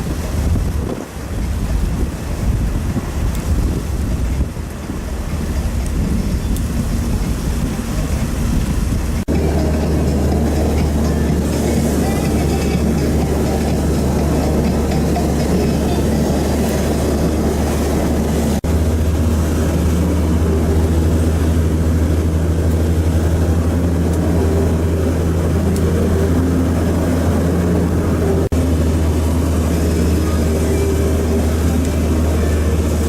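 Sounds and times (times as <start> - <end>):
heavy rain hiss: 0.0 - 33.0
wind buffeting microphone: 0.0 - 33.0.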